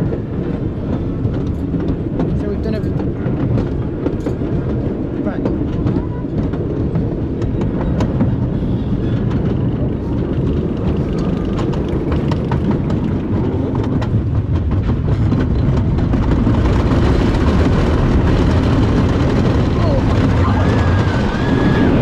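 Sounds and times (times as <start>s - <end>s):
roller coaster rumble: 0.0s - 22.0s
wheels clattering on wooden track: 0.0s - 22.0s.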